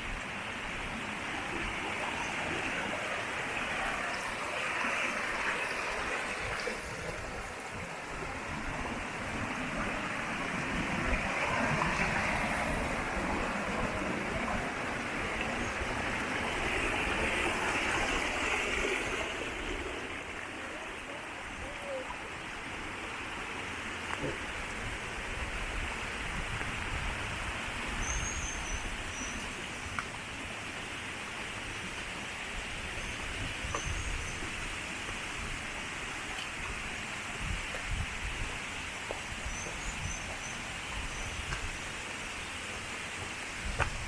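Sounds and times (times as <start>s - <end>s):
running water rushing: 0.0s - 44.0s.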